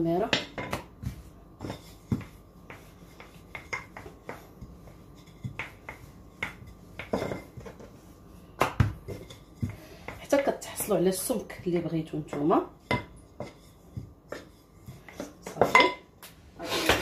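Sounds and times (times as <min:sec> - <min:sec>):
rolling pin knocking on countertop: 0:00.2 - 0:07.9, 0:08.6 - 0:16.0.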